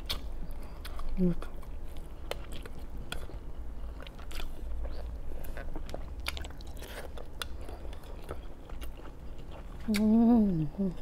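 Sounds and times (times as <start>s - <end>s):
low steady hum: 0.0s - 11.0s
person chewing: 0.0s - 11.0s.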